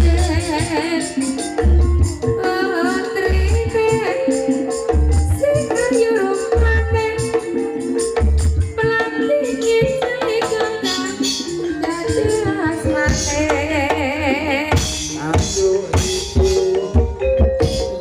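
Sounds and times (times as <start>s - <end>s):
hand drums: 0.0s - 18.0s
high wavering melody: 0.0s - 18.0s
sustained melodic line: 0.0s - 18.0s.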